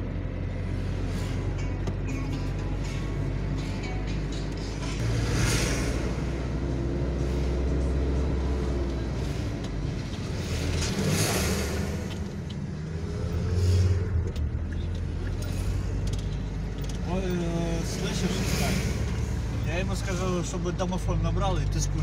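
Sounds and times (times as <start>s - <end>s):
car engine and road noise: 0.0s - 22.0s
lorries rushing past: 0.0s - 22.0s.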